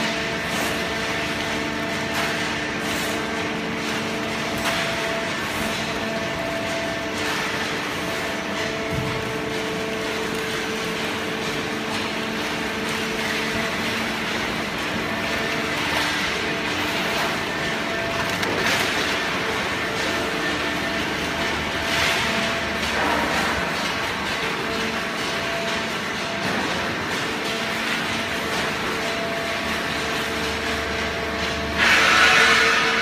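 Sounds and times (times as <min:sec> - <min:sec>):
hydraulic machine humming: 0:00.0 - 0:33.0.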